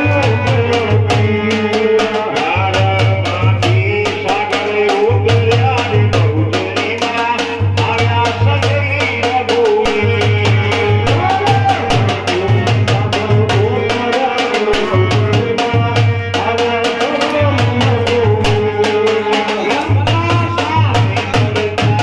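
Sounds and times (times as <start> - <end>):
dhol beaten with a stick: 0.0 - 22.0.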